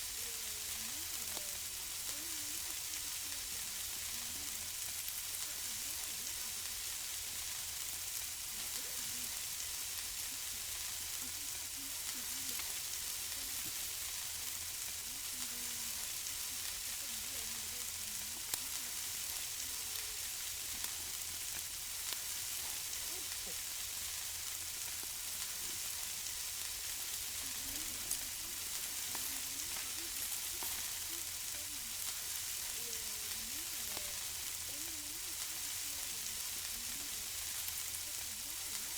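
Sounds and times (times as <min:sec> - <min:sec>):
food sizzling on grill: 0:00.0 - 0:38.9.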